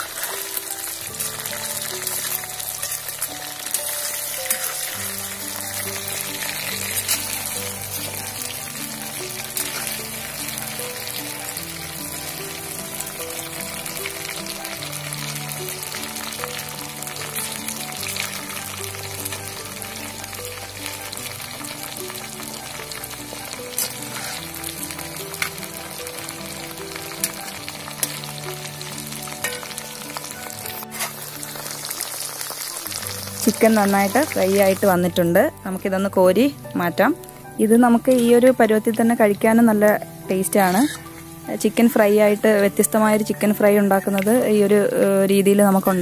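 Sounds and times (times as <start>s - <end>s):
chicken sizzling in oil: 0.0s - 35.0s, 37.2s - 46.0s
soft background music: 0.0s - 46.0s.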